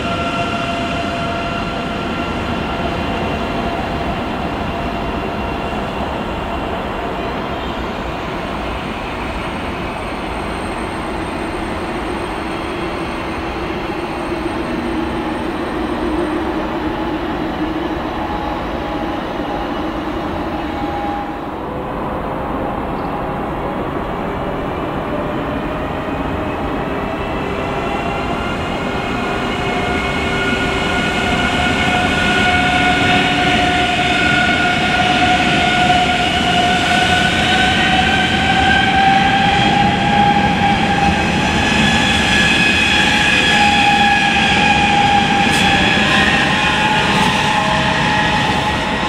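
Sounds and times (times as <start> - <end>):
train wheel and rail noise: 0.0 - 49.0.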